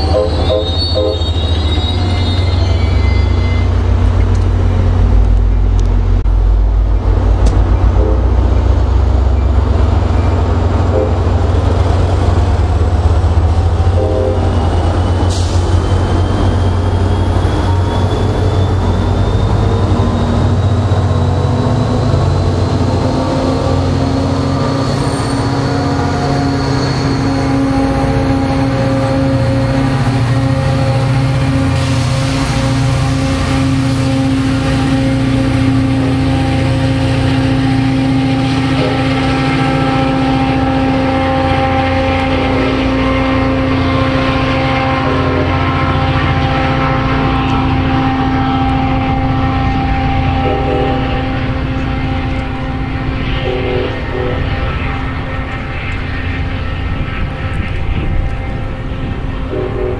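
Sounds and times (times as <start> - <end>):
diesel locomotive rumble: 0.0 - 59.9.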